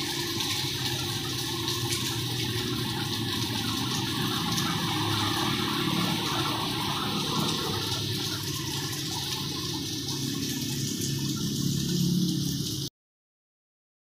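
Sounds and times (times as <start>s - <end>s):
rain pouring: 0.0s - 12.9s.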